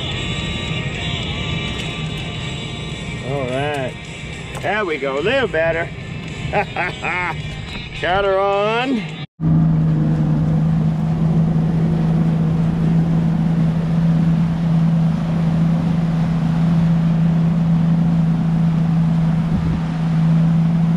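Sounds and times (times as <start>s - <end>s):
boat motor humming: 0.0s - 20.9s.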